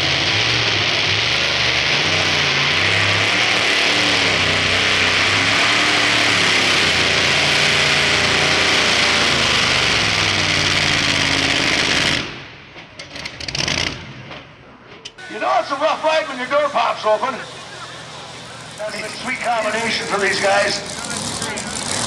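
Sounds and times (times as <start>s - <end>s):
truck engine at full throttle: 0.0s - 22.0s.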